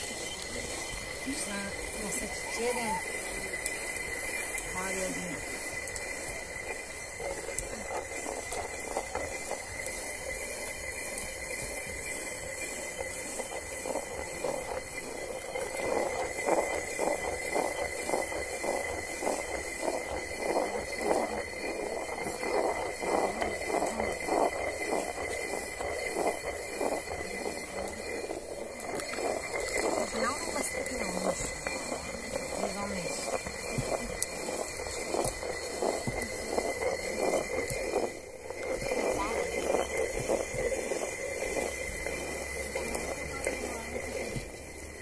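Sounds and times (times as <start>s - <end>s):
millstone grinding rumble: 0.0s - 45.0s
steady hiss: 0.0s - 45.0s.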